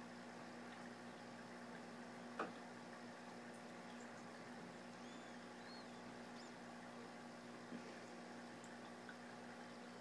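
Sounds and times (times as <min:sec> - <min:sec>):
faint aquarium equipment hum: 0:00.0 - 0:10.0.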